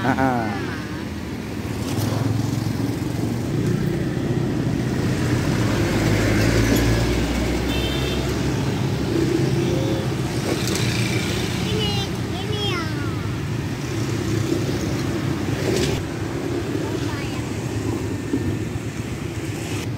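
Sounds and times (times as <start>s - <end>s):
road traffic passing: 0.0s - 19.9s.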